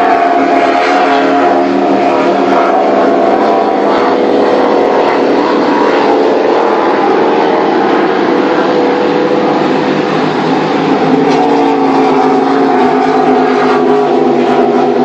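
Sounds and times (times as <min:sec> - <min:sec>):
powerboat engines roaring: 0:00.0 - 0:15.0.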